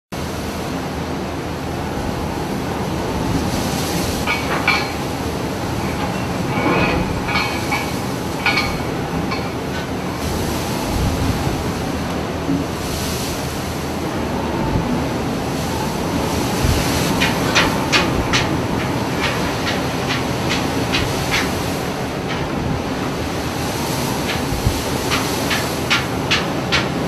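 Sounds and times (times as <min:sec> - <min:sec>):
heavy seas breaking: 0:00.2 - 0:27.0
storm wind on microphone: 0:00.6 - 0:27.0.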